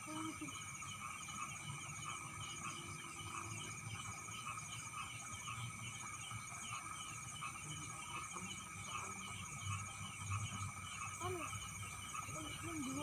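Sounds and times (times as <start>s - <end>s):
crickets trilling: 0.0s - 13.0s
frogs chirping: 0.0s - 13.0s.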